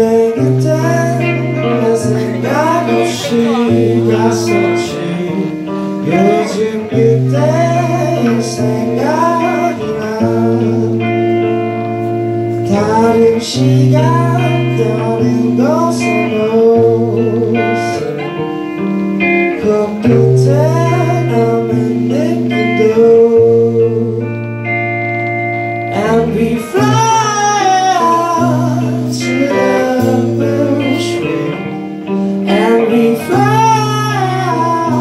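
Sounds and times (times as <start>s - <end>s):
person singing: 0.0s - 24.9s, 25.7s - 35.0s
bass guitar: 0.0s - 35.0s
electric guitar: 0.0s - 35.0s.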